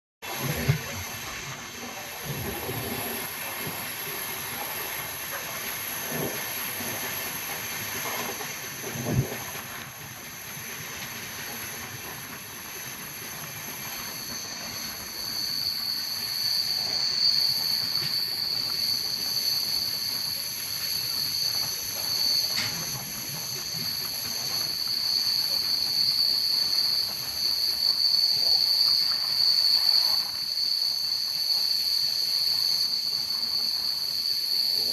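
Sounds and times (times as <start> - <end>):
train running on track: 0.2 - 34.9.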